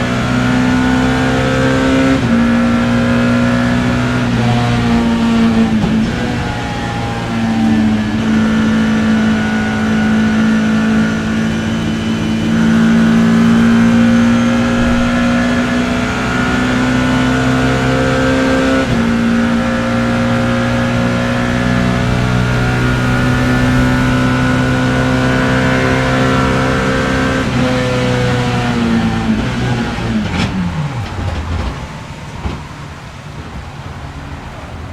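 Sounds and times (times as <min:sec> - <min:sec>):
car engine at full throttle: 0:00.0 - 0:34.9.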